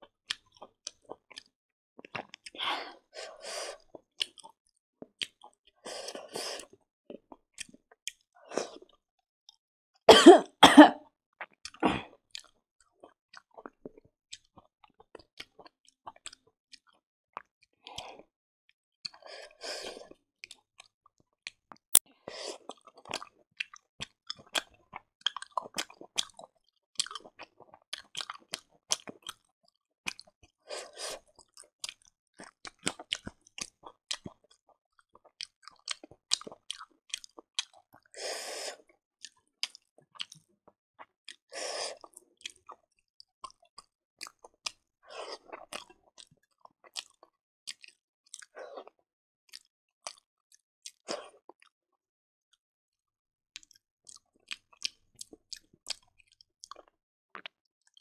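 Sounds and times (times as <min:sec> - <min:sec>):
close chewing mouth sounds: 0:00.0 - 0:03.1, 0:03.7 - 0:09.0, 0:11.4 - 0:18.3, 0:19.1 - 0:51.7, 0:53.6 - 0:58.0.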